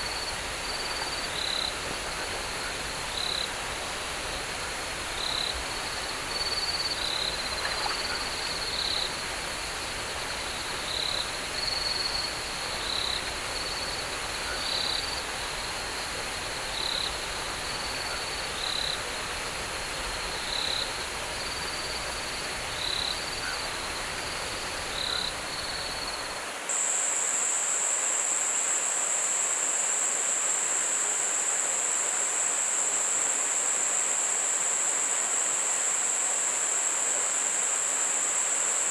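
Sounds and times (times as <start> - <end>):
steady hiss: 0.0 - 38.9.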